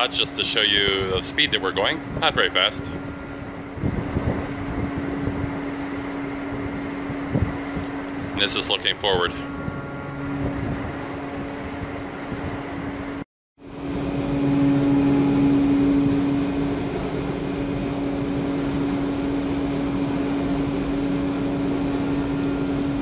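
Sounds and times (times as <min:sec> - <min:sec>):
ship machinery hum: 0:00.0 - 0:23.0.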